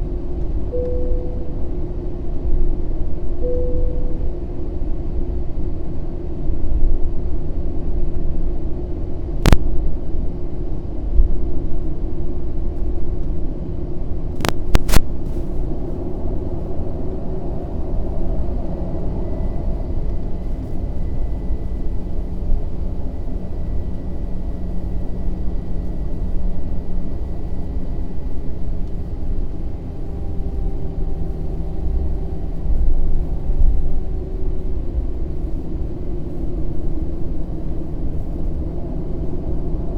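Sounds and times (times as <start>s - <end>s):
airplane engine rumble: 0.0s - 39.9s
steady hum: 0.0s - 39.9s.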